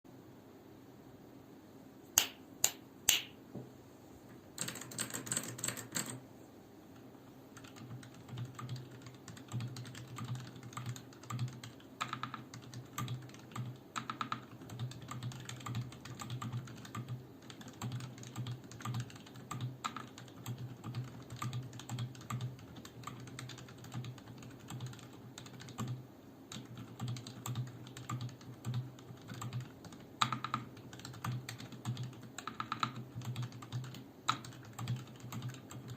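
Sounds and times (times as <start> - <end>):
typing on mechanical keyboard: 4.6 - 6.2, 7.6 - 35.9.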